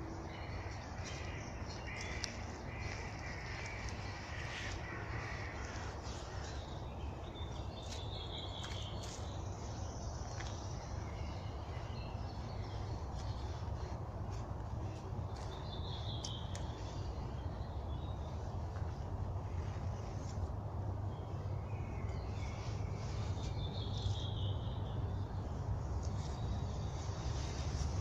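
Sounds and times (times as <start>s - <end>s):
birds calling: 0.0s - 28.0s
steady low rumble: 0.0s - 28.0s.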